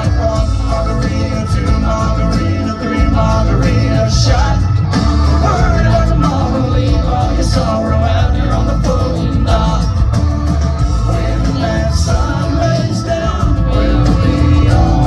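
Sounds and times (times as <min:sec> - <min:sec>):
live country band music: 0:00.0 - 0:15.0
sung melody: 0:00.0 - 0:15.0.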